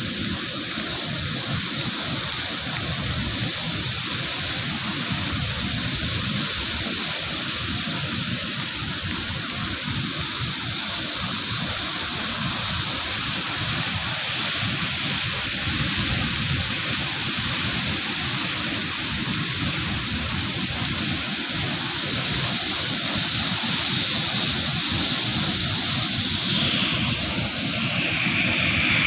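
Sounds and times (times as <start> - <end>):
rough sea surf: 0.0 - 29.0
stormy wind: 0.0 - 29.0.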